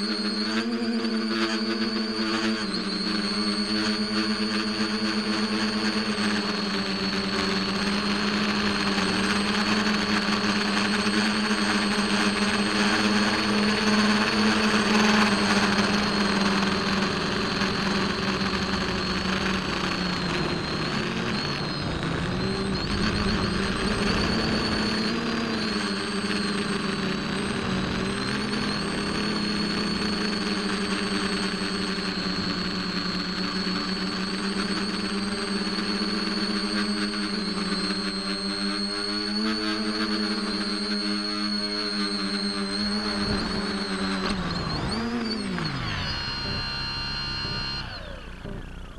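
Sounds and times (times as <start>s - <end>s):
model plane motor whine: 0.0s - 48.9s.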